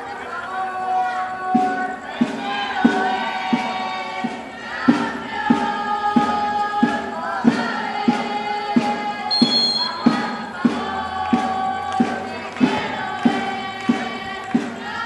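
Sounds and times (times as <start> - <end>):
voices singing together: 0.0 - 15.0
steady drum beat: 1.5 - 15.0.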